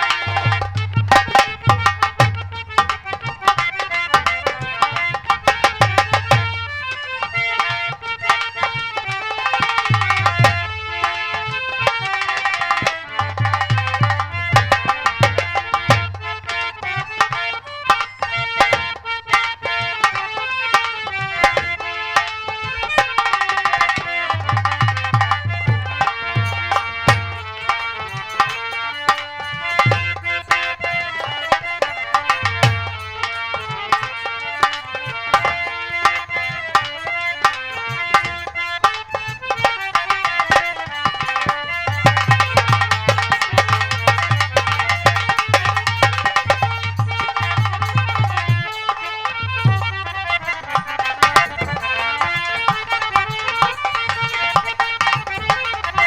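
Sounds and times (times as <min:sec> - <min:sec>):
held melody notes: 0:00.0 - 0:56.0.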